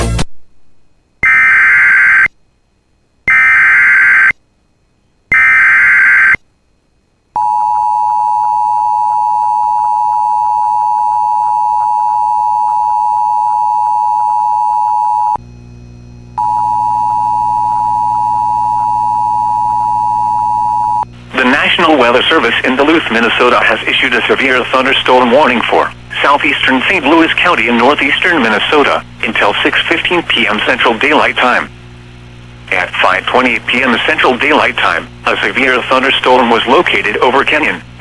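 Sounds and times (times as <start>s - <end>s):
steady attention tone: 7.4s - 38.0s.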